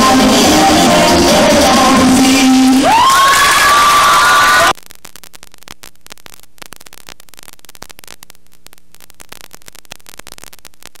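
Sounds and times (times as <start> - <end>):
electrical crackling static: 0.0 - 11.0
mains hum: 0.0 - 11.0.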